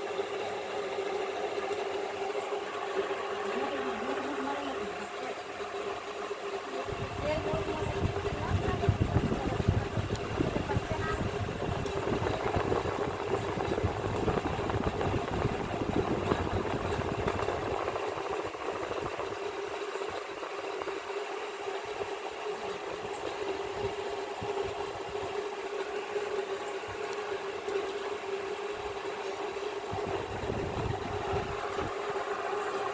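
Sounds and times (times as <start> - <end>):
mechanical hum with rattling: 0.0 - 32.9.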